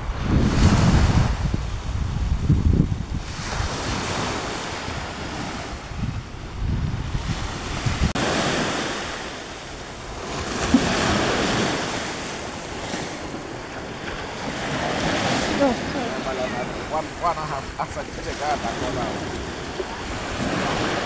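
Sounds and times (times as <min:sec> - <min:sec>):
waves washing onto sandy shore: 0:00.0 - 0:21.0
wind buffeting microphone: 0:00.0 - 0:21.0.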